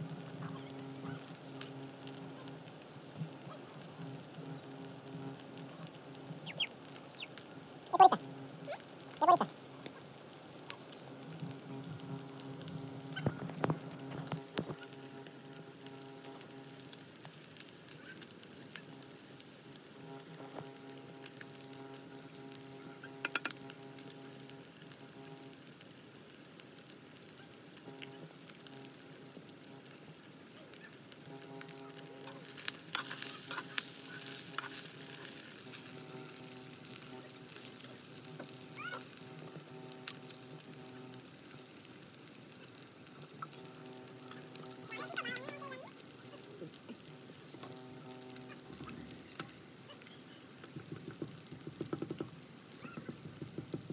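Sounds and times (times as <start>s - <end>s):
chicken sizzling in a wok: 0.0s - 53.9s.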